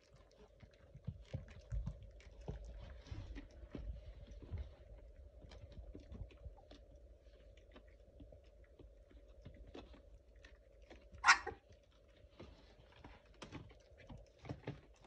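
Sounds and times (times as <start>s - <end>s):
faint steady hum: 0.0s - 15.0s
puppy paws clicks and rustles: 0.0s - 15.0s.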